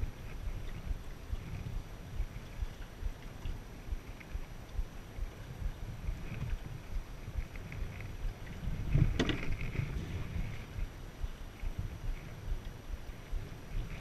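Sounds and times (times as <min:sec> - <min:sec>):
water washing along a hull: 0:00.0 - 0:14.0
wind noise on microphone: 0:00.0 - 0:14.0.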